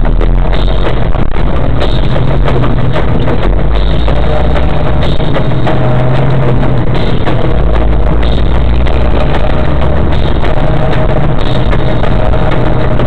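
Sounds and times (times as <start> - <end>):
loud music with drum beat: 0.0 - 13.0.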